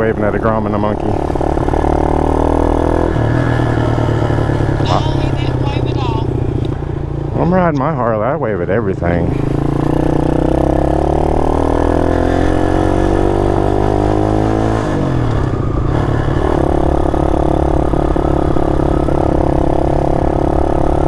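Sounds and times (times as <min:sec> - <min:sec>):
small motorcycle engine accelerating: 0:00.0 - 0:21.0.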